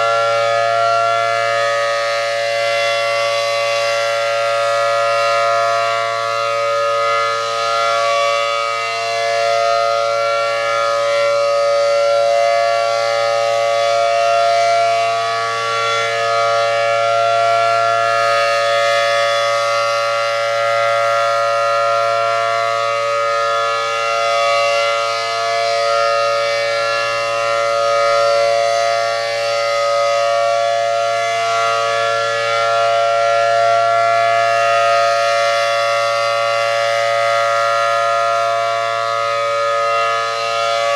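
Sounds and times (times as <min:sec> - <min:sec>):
rotating warning siren: 0:00.0 - 0:40.9.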